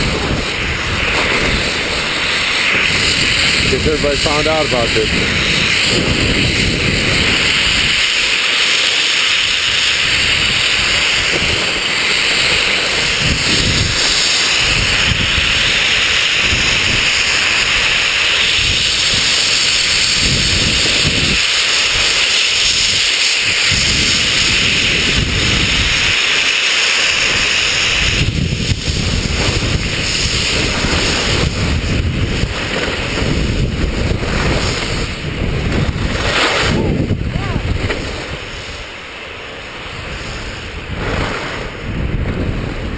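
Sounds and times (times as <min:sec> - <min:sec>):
skis scraping on snow: 0:00.0 - 0:42.9
wind buffeting microphone: 0:00.0 - 0:42.9.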